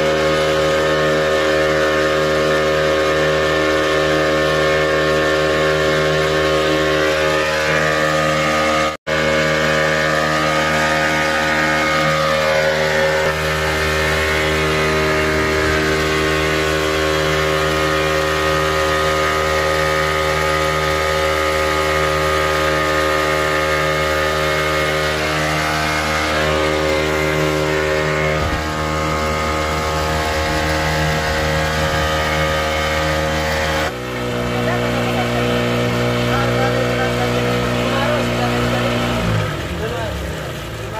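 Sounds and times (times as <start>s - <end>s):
motorboat engine running: 0.0s - 40.9s
water rushing along hull: 0.0s - 40.9s.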